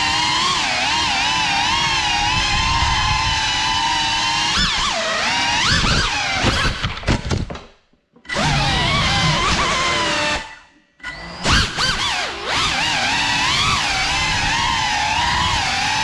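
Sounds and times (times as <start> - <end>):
drone motors whining: 0.0 - 7.0, 8.2 - 16.0.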